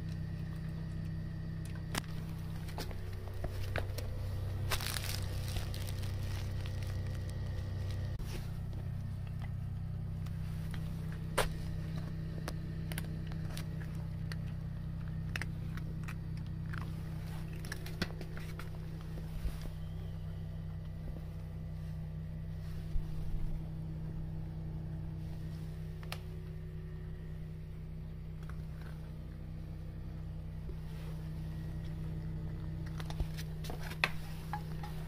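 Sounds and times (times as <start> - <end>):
machinery humming: 0.0 - 35.0.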